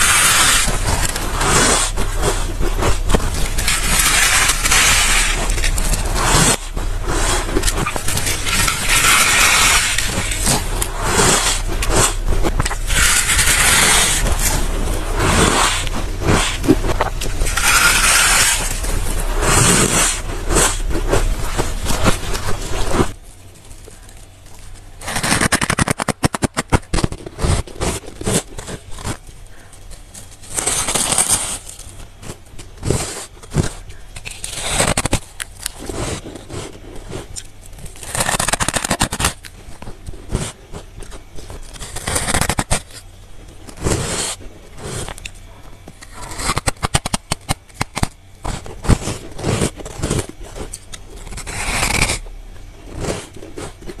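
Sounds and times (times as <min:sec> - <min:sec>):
biting crunchy frost: 0:00.0 - 0:54.0.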